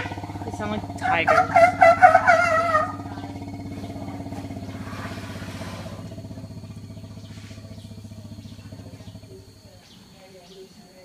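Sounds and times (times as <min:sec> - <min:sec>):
elephants rumbling: 0:00.0 - 0:10.8.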